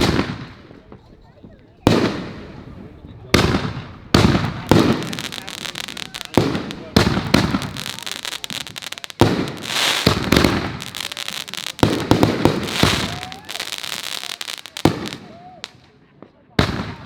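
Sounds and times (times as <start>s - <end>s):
firework shells bursting: 0.0s - 15.8s
firework crackling: 0.0s - 16.0s.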